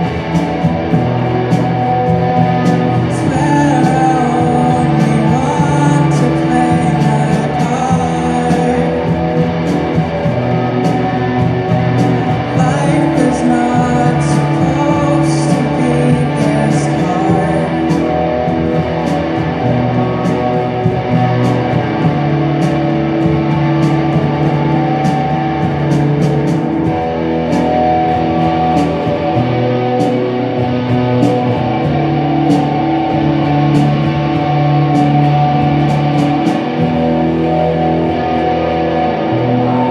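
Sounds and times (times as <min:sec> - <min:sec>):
electric guitar: 0:00.0 - 0:39.9
steady drum beat: 0:00.0 - 0:39.9.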